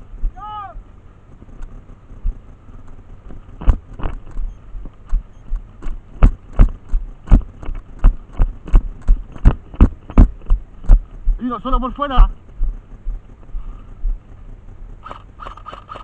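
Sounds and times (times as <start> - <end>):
running footsteps: 1.4 - 14.3.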